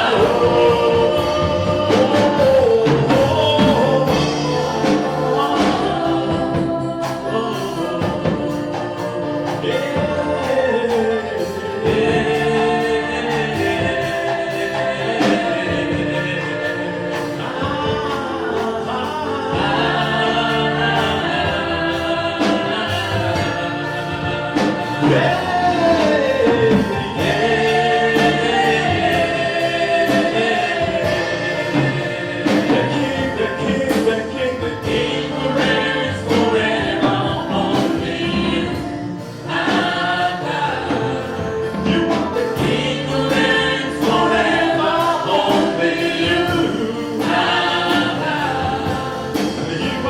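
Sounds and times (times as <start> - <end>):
band accompaniment with beat: 0.0 - 50.0
choir singing gospel: 0.0 - 50.0.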